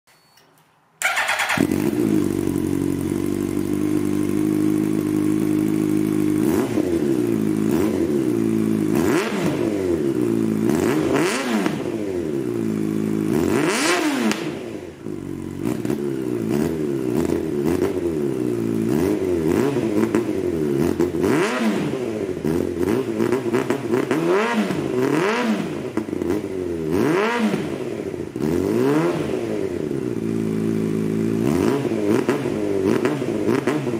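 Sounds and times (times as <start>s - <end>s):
motorcycle engine revving: 1.0s - 33.9s.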